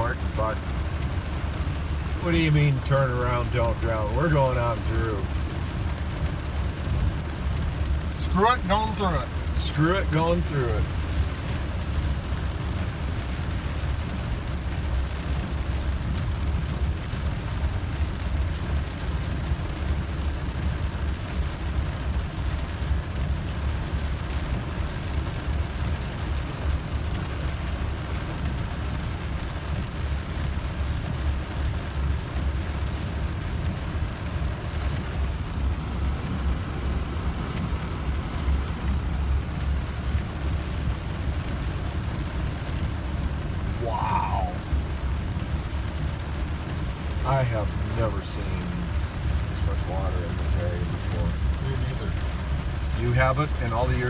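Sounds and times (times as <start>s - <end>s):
hiss of water and rain: 0.0s - 54.0s
vehicle cabin rumble: 0.0s - 54.0s.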